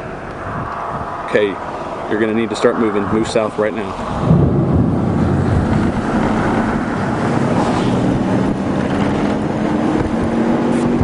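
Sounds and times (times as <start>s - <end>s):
vehicle engine and road noise: 0.0s - 11.0s
wind buffeting microphone: 0.0s - 11.0s.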